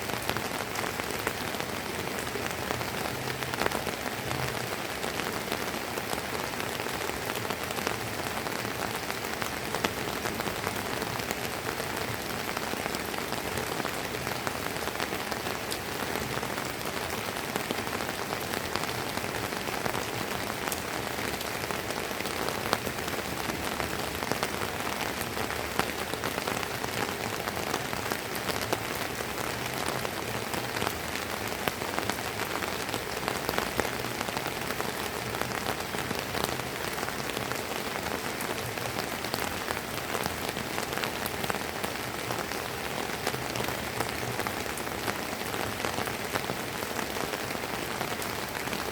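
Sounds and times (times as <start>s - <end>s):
rain pattering on hard surfaces: 0.0s - 48.9s.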